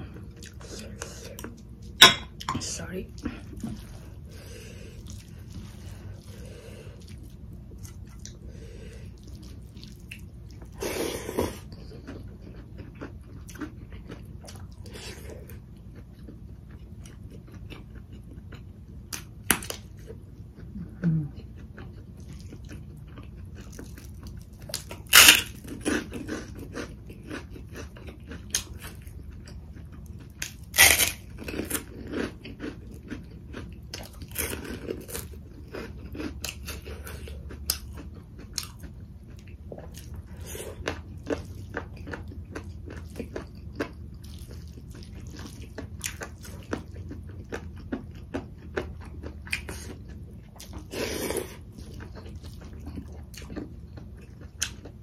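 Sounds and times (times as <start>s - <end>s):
chewing and mouth noises: 3.1s - 55.0s.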